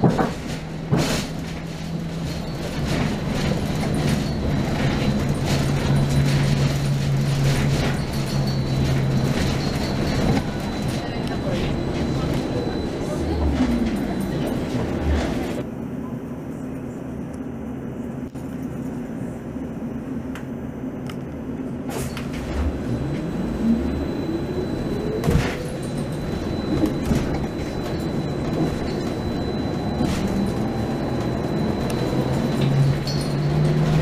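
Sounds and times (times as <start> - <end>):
electric bus motor whine: 0.0 - 16.0, 19.2 - 34.0.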